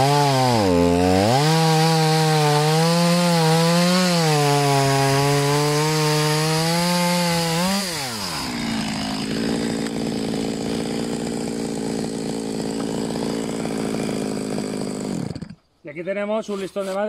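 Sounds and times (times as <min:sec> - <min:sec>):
chainsaw cutting log: 0:00.0 - 0:15.6.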